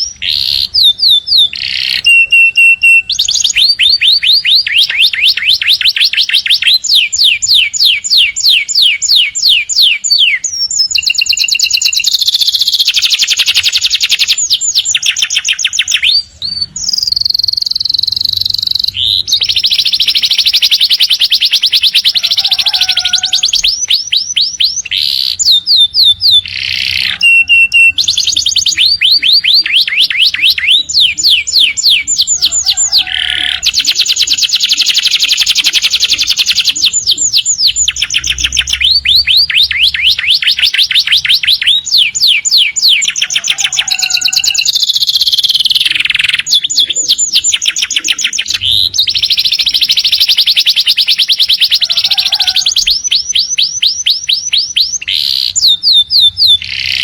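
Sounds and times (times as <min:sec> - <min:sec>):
canary singing fast trills: 0:00.0 - 0:57.0.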